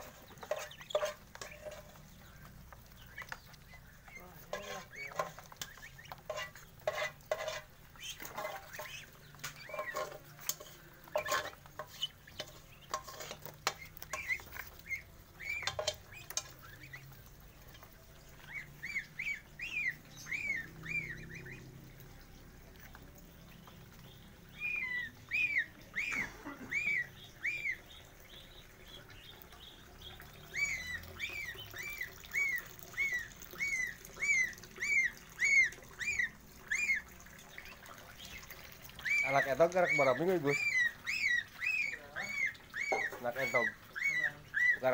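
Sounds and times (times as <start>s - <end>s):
chicks peeping: 0.0s - 44.9s.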